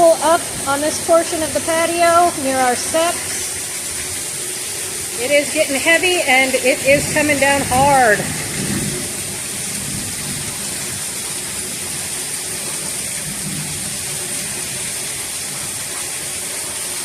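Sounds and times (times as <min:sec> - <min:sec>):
heavy rain pouring: 0:00.0 - 0:17.0
water splashing and runoff: 0:00.0 - 0:17.0.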